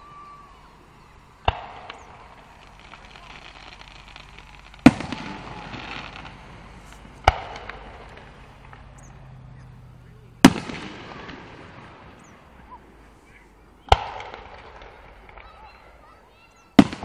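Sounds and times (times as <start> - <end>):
firework shells booming: 0.0 - 17.0
rolling echo and crackle: 0.0 - 17.0.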